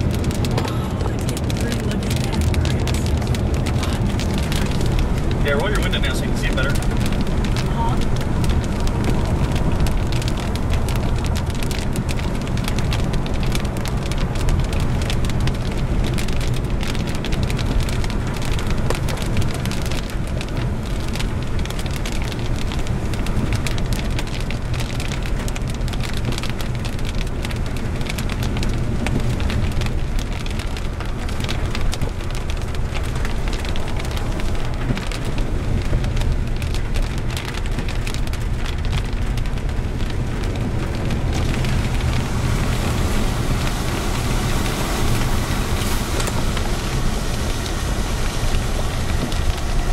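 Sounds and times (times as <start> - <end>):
raindrops ticking: 0.0 - 49.9.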